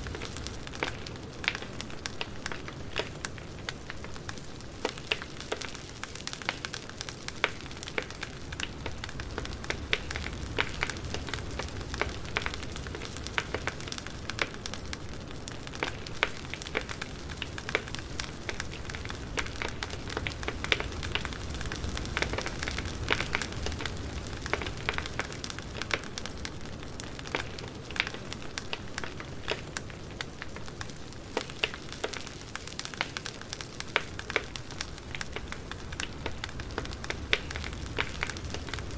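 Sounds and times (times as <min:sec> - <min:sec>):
campfire crackling and popping: 0:00.0 - 0:38.9
low rumble of flames: 0:00.0 - 0:38.9.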